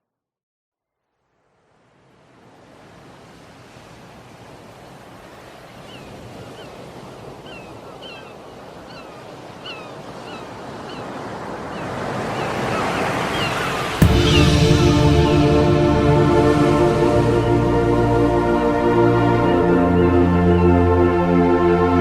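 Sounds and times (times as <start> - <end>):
sea waves breaking: 1.6 - 22.0.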